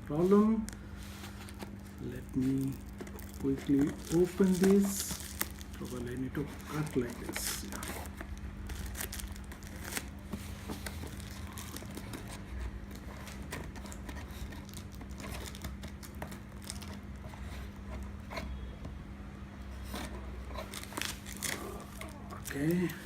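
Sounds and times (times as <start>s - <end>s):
steady low hum: 0.0s - 23.0s
packaging crinkling and tearing: 0.2s - 17.2s, 20.6s - 23.0s.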